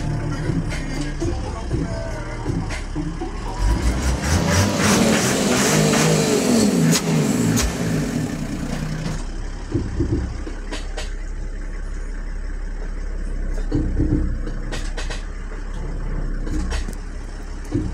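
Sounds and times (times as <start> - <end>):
diesel bus engine revving and idling: 0.0 - 17.9.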